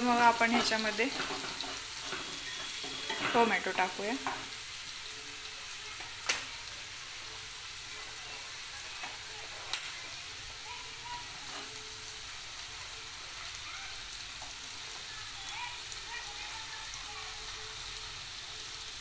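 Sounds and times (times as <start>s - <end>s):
onion sizzling in hot oil: 0.0s - 19.0s.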